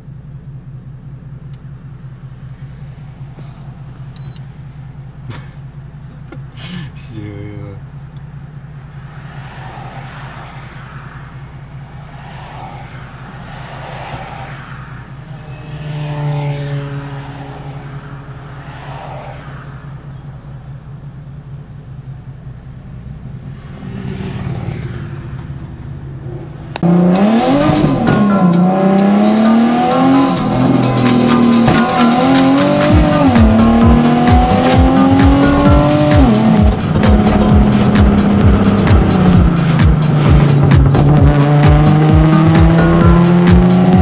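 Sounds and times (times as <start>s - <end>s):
car engine idling: 0.0s - 44.0s
car engine revving: 0.0s - 44.0s
passing traffic: 0.0s - 44.0s.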